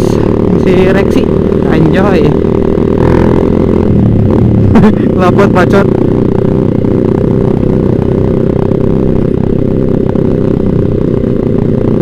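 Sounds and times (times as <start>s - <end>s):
motorcycle exhaust note: 0.0s - 12.0s.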